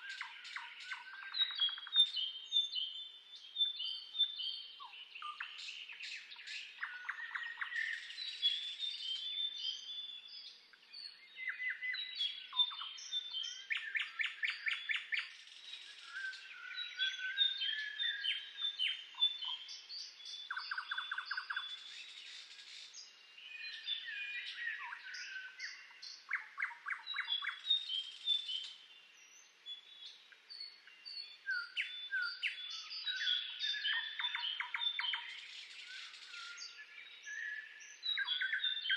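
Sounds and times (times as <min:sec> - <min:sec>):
birds singing: 0:00.0 - 0:38.9.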